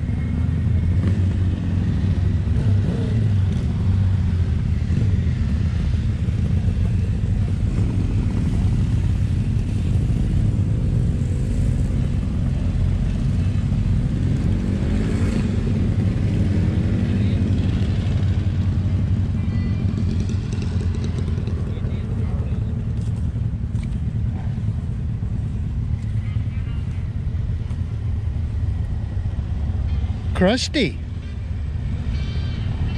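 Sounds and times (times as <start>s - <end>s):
faint motorcycle engine: 0.0s - 32.9s.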